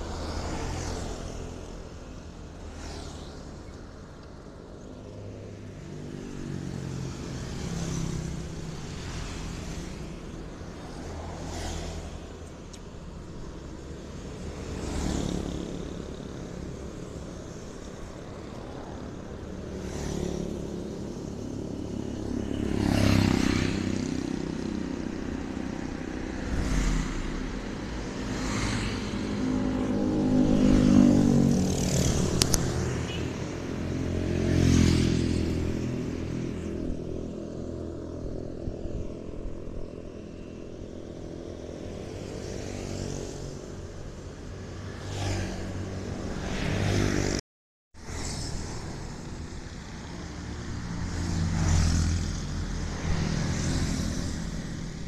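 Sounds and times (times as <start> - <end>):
vehicles passing: 0.0 - 47.4, 48.0 - 55.0.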